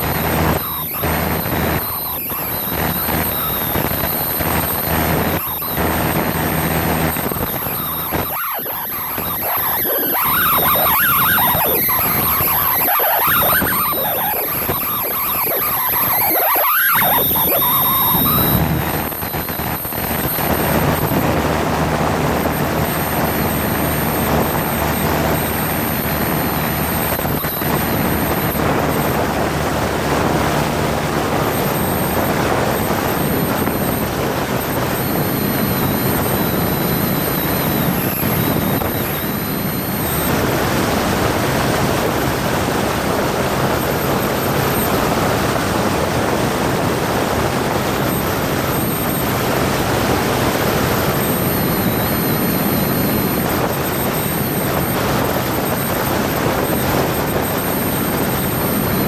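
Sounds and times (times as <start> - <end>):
aircraft engine noise: 0.0 - 59.0.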